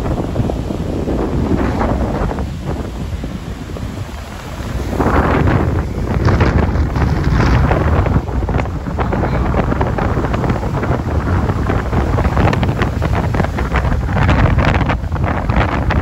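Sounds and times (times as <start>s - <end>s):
strong wind buffeting microphone: 0.0s - 16.0s
surf breaking on beach: 0.0s - 16.0s.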